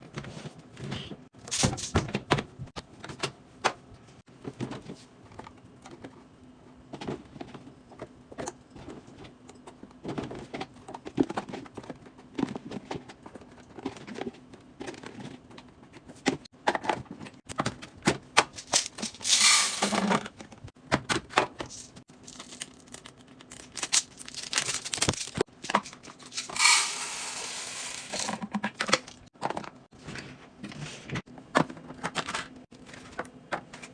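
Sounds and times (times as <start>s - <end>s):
items clicking and clattering: 4.4s - 33.9s.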